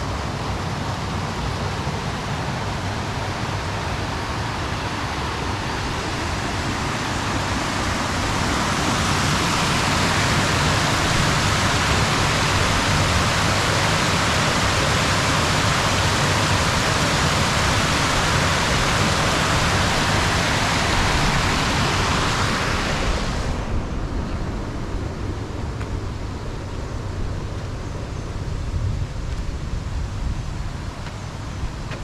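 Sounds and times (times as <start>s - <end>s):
rushing water hiss: 0.0s - 32.0s.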